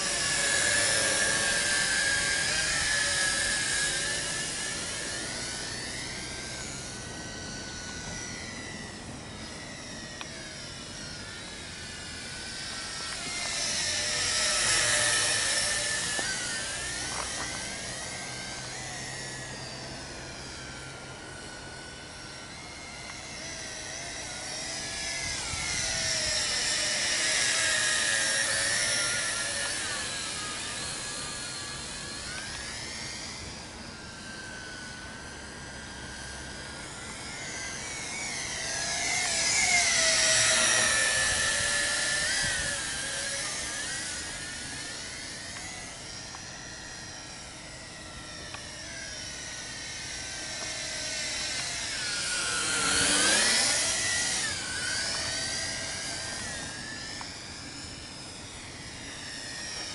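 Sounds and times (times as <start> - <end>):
drone rotors whining: 0.0 - 59.9.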